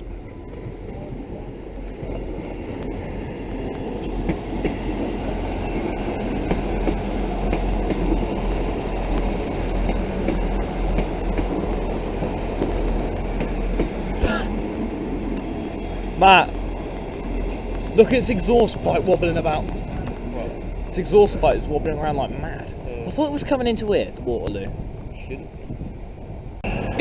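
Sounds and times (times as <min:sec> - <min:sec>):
diesel train engines humming: 0:00.0 - 0:27.0
train wheels clicking over rail joints: 0:00.8 - 0:27.0.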